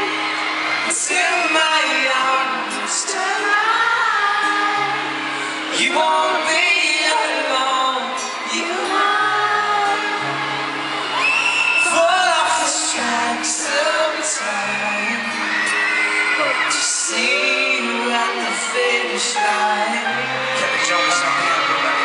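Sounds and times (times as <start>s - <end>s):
acoustic guitar: 0.0s - 22.0s
piano: 0.0s - 22.0s
person singing: 0.8s - 10.5s, 11.8s - 15.8s, 16.4s - 22.0s.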